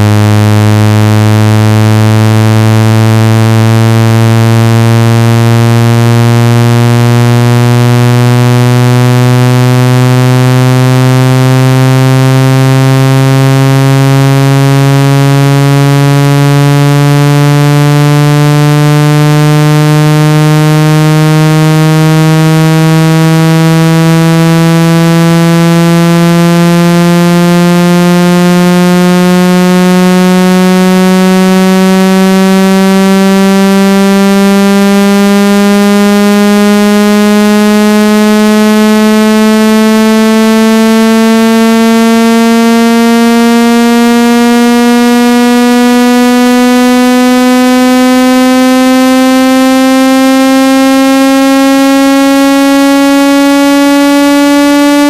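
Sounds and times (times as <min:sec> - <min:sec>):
low buzzing tone rising in pitch: 0:00.0 - 0:55.0.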